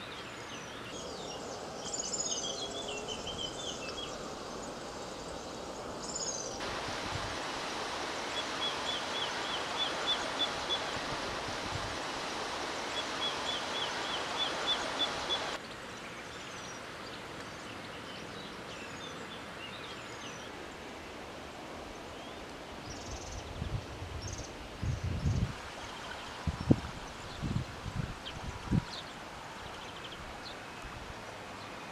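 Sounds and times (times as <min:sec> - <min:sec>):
river water rushing: 0:00.0 - 0:23.4, 0:25.5 - 0:31.9.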